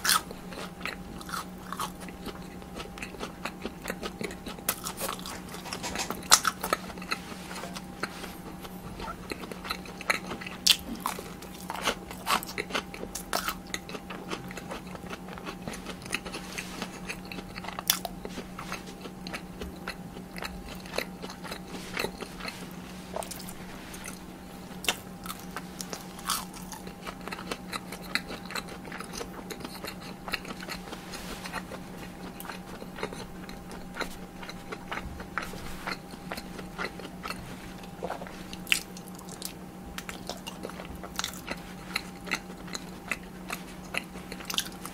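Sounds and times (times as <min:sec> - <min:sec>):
biting and chewing: 0:00.0 - 0:44.9
faint steady hum: 0:00.0 - 0:44.9.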